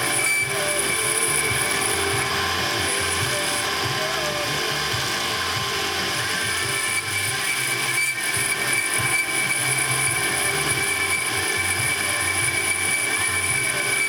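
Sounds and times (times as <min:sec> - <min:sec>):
high steady whine: 0:00.0 - 0:14.0
power tool running: 0:00.0 - 0:14.0.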